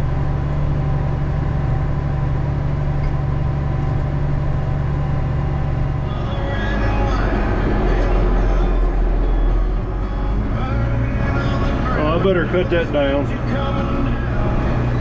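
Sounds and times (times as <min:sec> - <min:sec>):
tractor diesel engine drone: 0:00.0 - 0:15.0.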